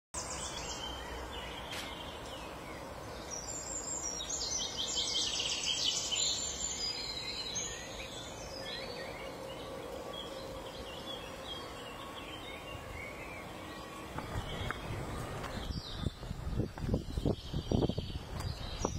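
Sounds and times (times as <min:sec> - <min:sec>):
finches twittering: 0:00.2 - 0:18.9
low background noise: 0:00.2 - 0:18.9.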